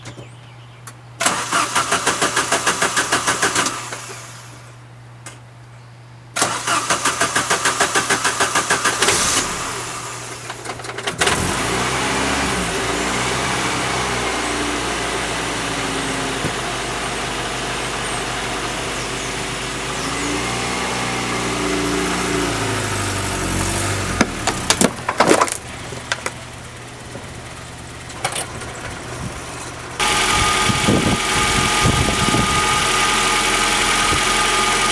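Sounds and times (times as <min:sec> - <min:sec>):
car engine cranking: 0:01.2 - 0:04.5, 0:06.4 - 0:34.9
car engine idling: 0:06.6 - 0:34.9.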